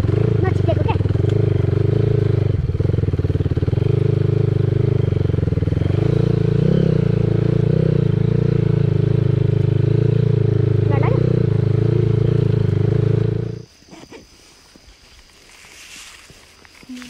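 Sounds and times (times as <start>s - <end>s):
dirt bike engine running: 0.0s - 13.7s.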